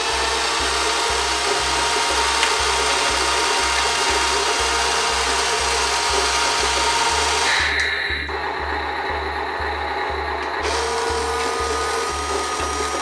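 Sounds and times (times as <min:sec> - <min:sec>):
electric gear motor whining: 0:00.0 - 0:13.0.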